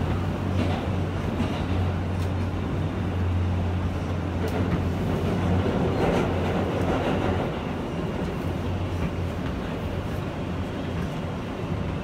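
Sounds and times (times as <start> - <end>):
subway car low hum: 0.0 - 12.0
wheels rumbling on rail: 0.0 - 12.0.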